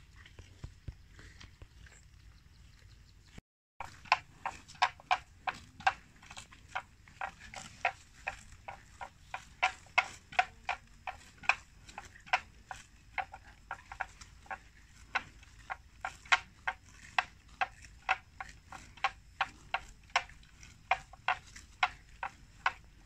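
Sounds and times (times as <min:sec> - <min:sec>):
buffalo ripping grass: 0:03.8 - 0:23.0.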